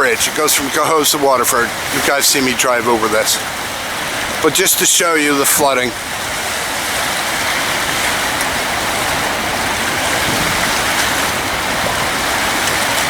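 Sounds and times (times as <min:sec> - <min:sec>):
river water rushing over dam: 0:00.0 - 0:13.0.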